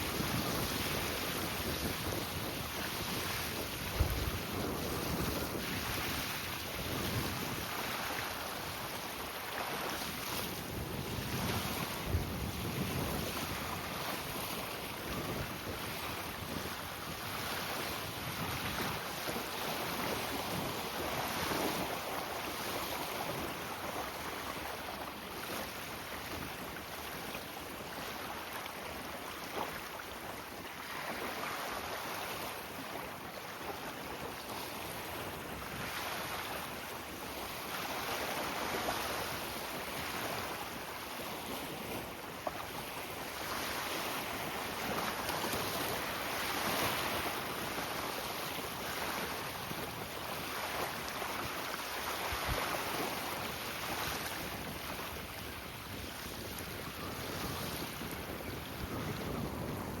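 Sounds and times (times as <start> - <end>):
choppy water: 0.0 - 60.0
wind blowing across microphone: 0.0 - 60.0.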